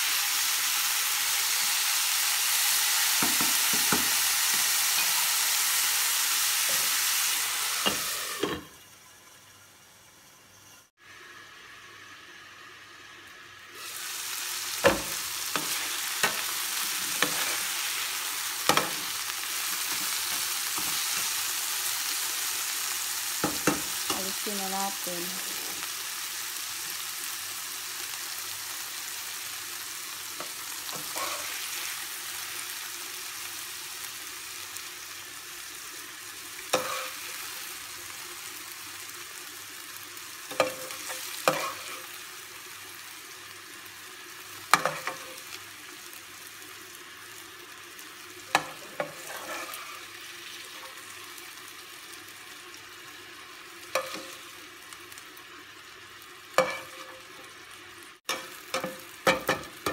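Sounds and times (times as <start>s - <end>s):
chicken sizzling in hot oil: 0.0s - 59.9s.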